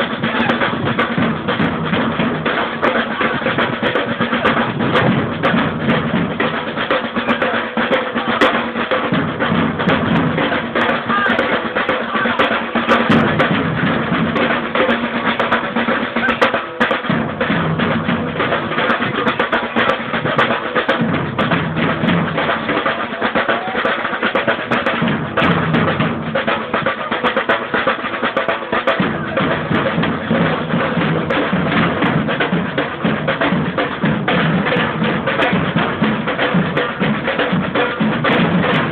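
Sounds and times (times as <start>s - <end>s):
deep bass drums: 0.0s - 7.5s, 8.3s - 16.3s, 16.9s - 26.9s, 28.9s - 38.9s
fast higher drum strokes: 0.0s - 38.9s.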